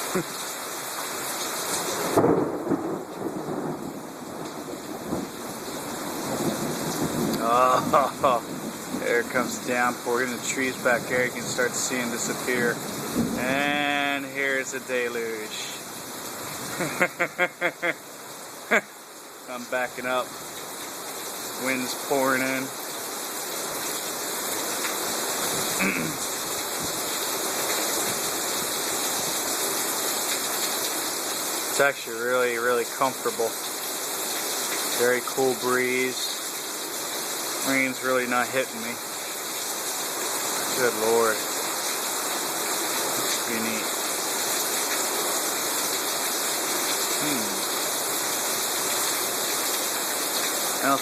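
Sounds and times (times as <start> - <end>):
heavy rain: 0.0 - 51.0
wind: 0.0 - 51.0.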